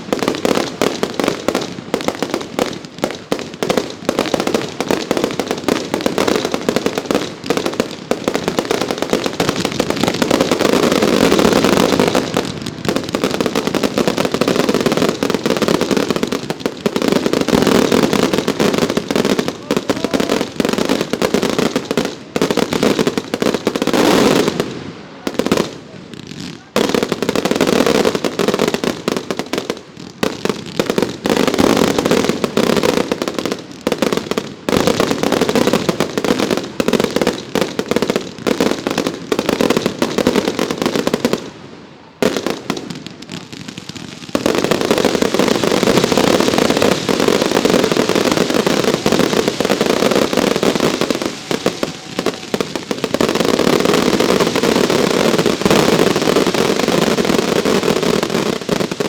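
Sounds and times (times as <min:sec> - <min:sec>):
fireworks bursts and crackle: 0:00.0 - 0:59.0.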